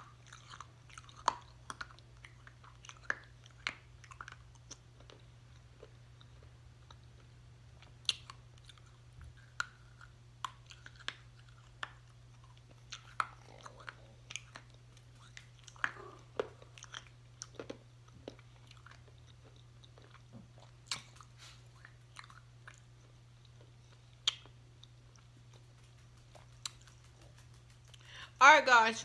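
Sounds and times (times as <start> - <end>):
chewing and crunching candy: 0.0 - 28.4
faint low hum: 0.0 - 29.0.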